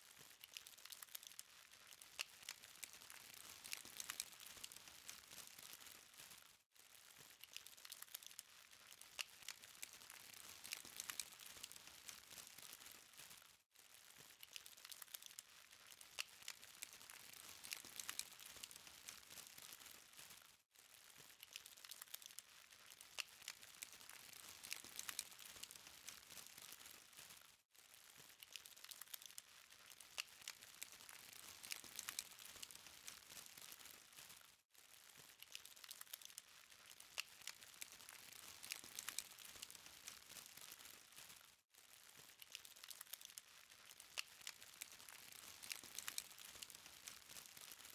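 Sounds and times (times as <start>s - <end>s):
charcoal fire crackling: 0.3s - 34.4s, 35.0s - 47.9s.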